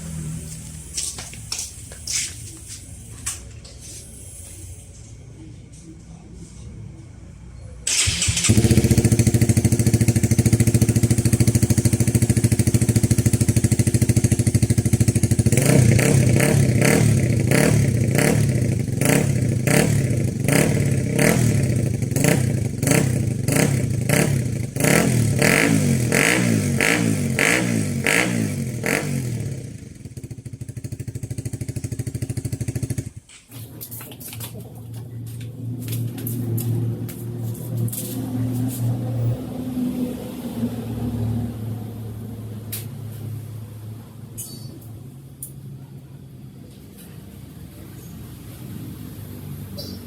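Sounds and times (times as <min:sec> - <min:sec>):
motorcycle engine idling and revving: 0:00.0 - 0:03.3, 0:07.8 - 0:50.0.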